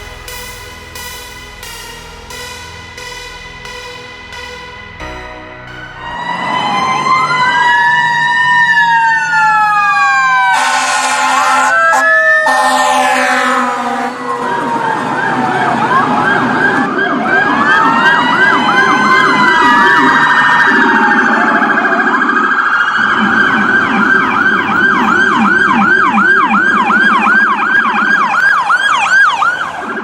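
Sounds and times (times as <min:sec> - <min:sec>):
emergency vehicle siren: 0:01.6 - 0:30.0.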